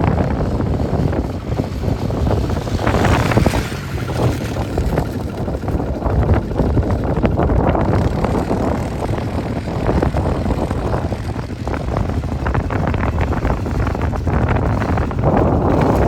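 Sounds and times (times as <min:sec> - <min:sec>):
vehicle rumbling: 0:00.0 - 0:16.0
wind gusting on microphone: 0:00.0 - 0:16.0.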